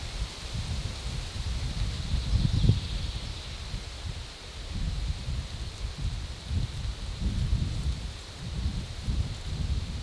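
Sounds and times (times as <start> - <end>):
leaves rustling: 0.0 - 10.0
wind gusting through trees: 0.0 - 10.0.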